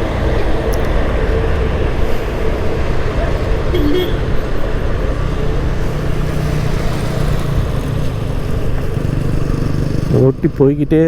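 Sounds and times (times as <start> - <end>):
scooter engine hum: 0.0 - 11.0
wind rush and road noise: 0.0 - 11.0.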